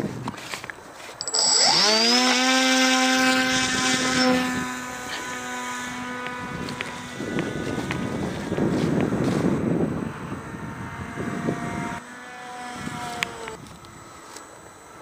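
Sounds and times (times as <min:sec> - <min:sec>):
model aircraft motor whine: 0:01.2 - 0:15.0.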